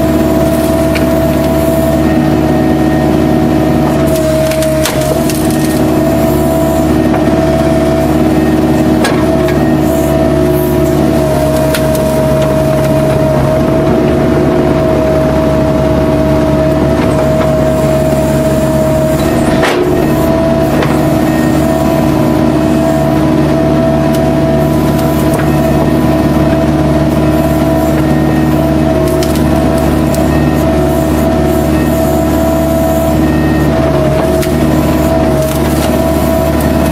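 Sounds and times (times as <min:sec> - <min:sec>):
diesel engine running: 0:00.0 - 0:36.9
steady whine: 0:00.0 - 0:36.9.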